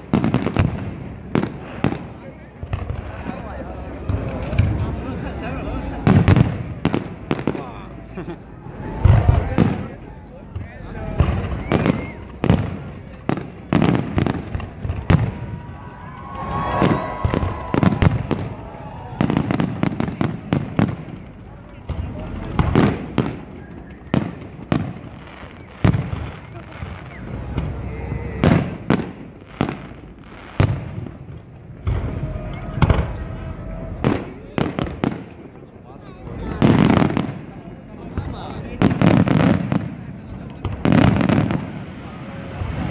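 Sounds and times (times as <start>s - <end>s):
fireworks bangs: 0.0s - 42.9s.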